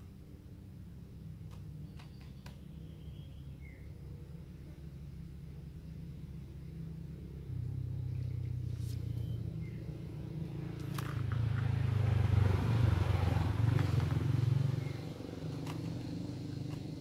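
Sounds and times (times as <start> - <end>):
vehicle engine running: 1.0 - 17.0.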